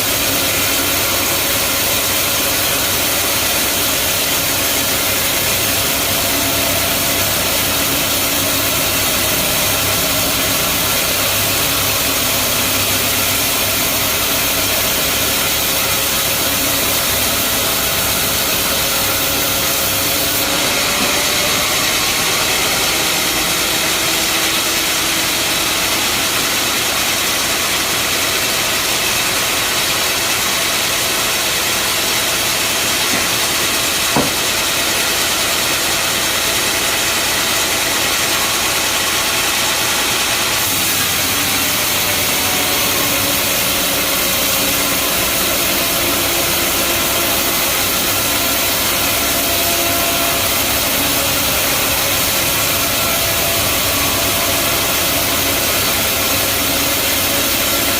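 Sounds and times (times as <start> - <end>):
bandsaw sawmill running: 0.0 - 57.9.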